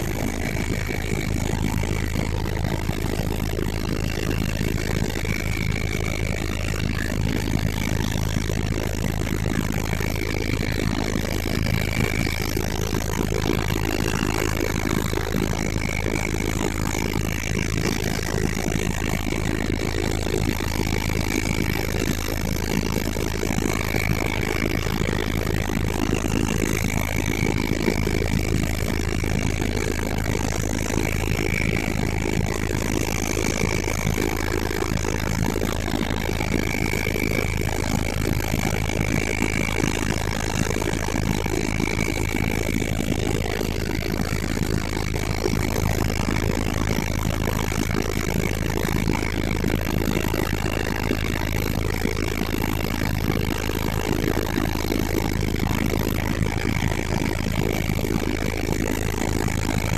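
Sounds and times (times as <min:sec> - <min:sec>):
helicopter rotor and engine drone: 0:00.0 - 0:59.9
high whine: 0:00.0 - 0:59.9.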